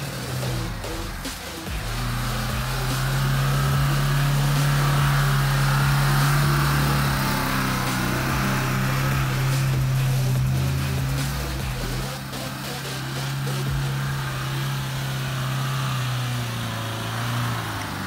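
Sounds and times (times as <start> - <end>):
engine running at high revs: 0.0 - 18.0.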